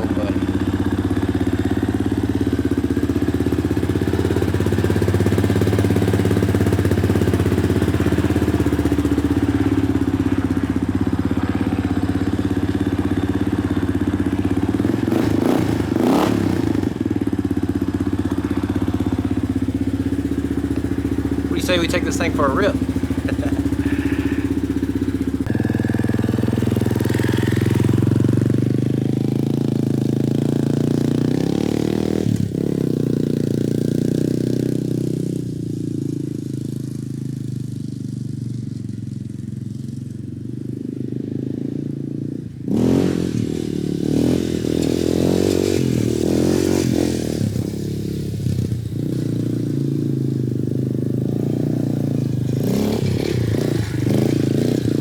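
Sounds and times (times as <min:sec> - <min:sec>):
quad engine revving: 0:00.0 - 0:35.4, 0:42.7 - 0:55.0.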